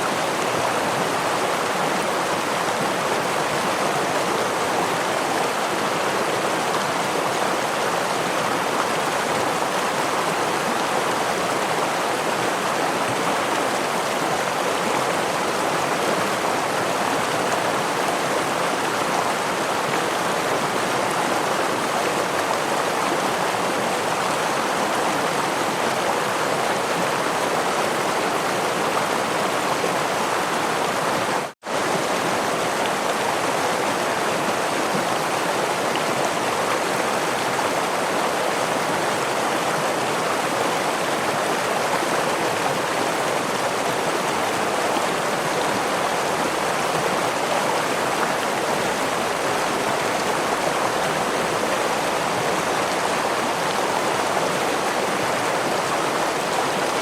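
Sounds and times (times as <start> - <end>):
stream of rushing water: 0.0 - 57.0.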